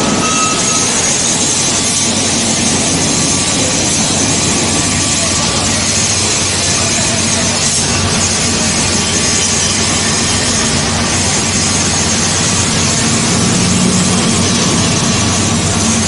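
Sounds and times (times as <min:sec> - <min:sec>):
recycling machinery running: 0:00.0 - 0:16.0.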